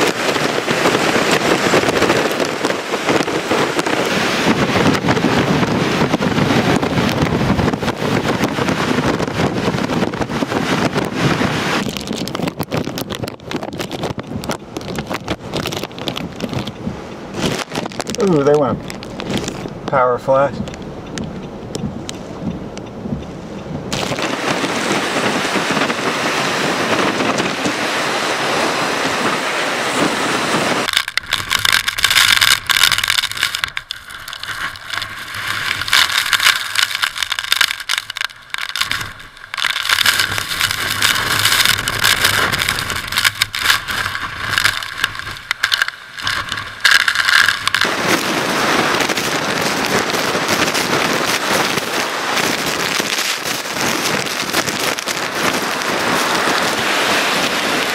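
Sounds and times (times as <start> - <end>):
gusting wind: 0.0 - 57.9
rain rushing: 0.0 - 57.9.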